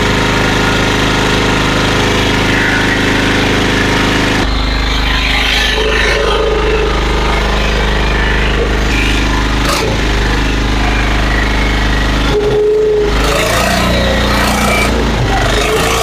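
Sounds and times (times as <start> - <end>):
firewood splitter engine running: 0.0 - 16.0
steady whine: 0.0 - 16.0.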